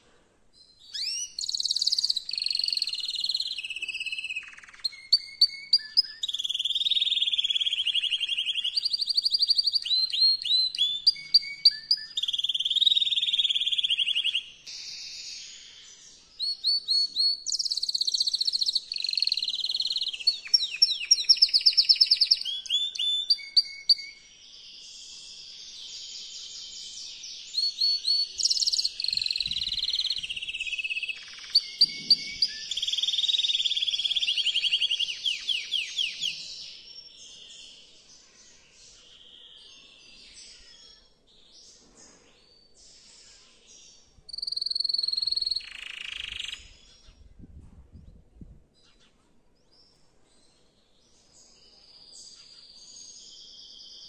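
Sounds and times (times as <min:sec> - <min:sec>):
canary singing trills: 0:00.6 - 0:24.3, 0:25.0 - 0:41.3, 0:44.0 - 0:47.4.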